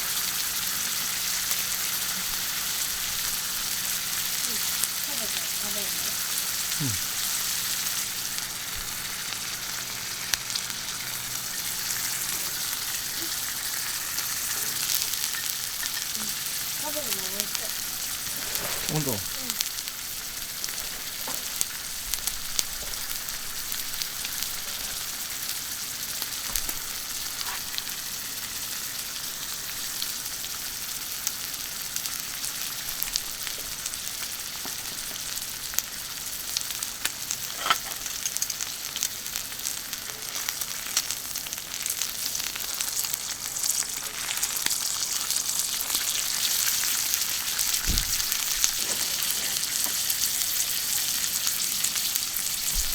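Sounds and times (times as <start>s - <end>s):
food sizzling on a griddle: 0.0s - 52.9s.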